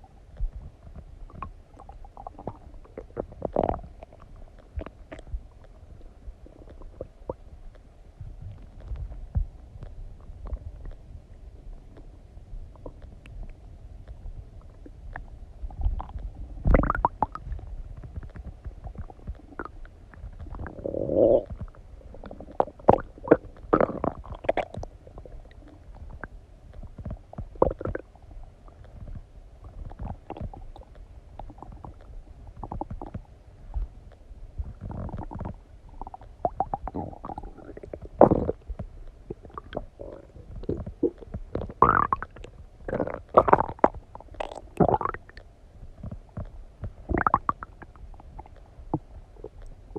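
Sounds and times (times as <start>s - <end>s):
stomach gurgling and rumbling: 0.0s - 49.9s.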